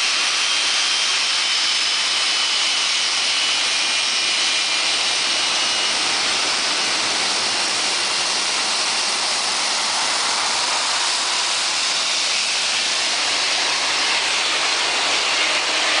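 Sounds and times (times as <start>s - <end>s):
faint jet engine whine: 0.0s - 16.0s
jet engine exhaust rushing: 0.0s - 16.0s.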